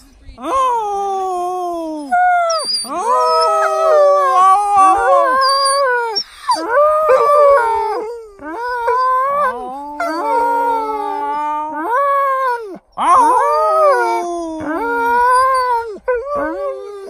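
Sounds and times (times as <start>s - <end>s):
dogs howling: 2.2s - 17.0s.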